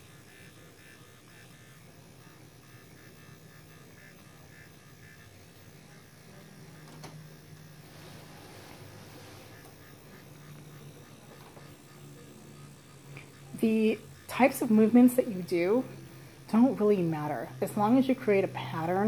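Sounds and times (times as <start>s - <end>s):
electric pen buzzing: 0.0s - 19.0s.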